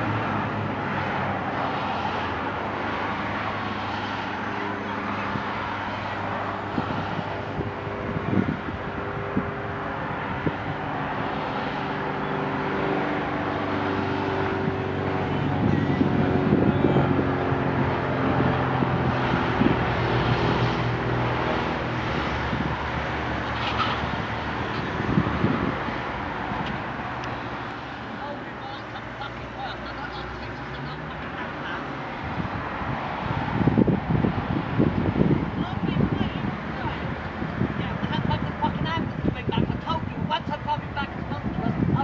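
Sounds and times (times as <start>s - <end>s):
wind on microphone: 0.0s - 28.2s, 30.1s - 42.0s.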